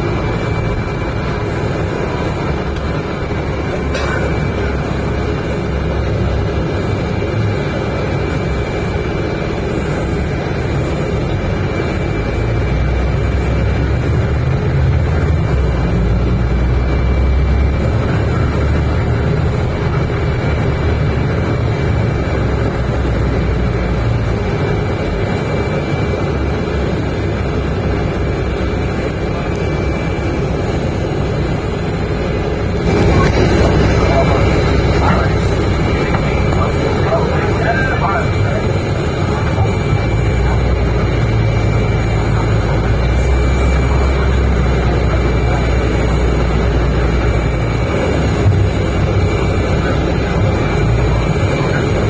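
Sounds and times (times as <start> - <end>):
bus engine drone: 0.0 - 52.0
road noise: 0.0 - 52.0.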